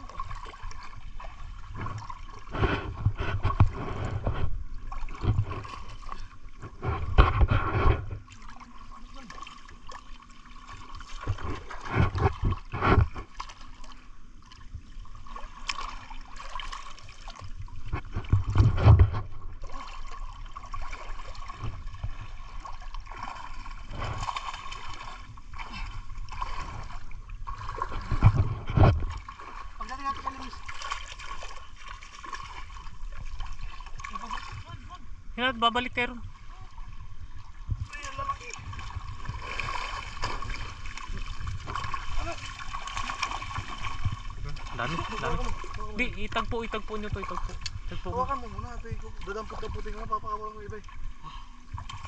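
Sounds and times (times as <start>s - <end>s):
water sloshing and splashing: 0.0s - 52.0s.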